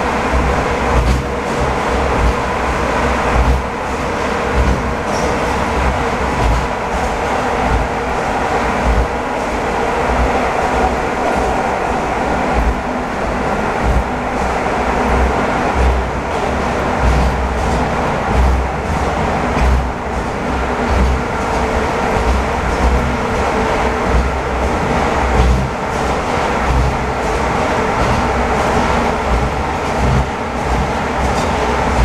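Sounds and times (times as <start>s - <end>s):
wheels rumbling on rails: 0.0s - 32.0s
low thumps: 0.3s - 32.0s.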